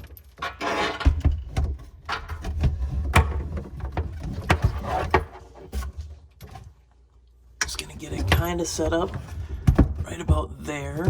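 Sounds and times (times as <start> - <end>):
clunks and knocks of handling: 0.0 - 6.9, 8.2 - 11.0.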